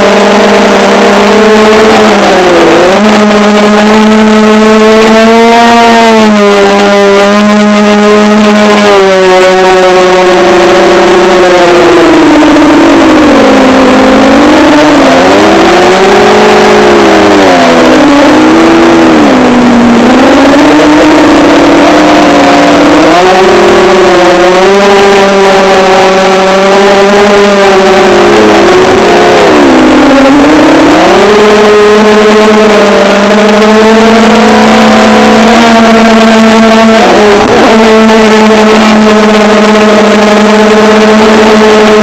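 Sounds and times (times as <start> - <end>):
drone motors whining: 0.0 - 42.0.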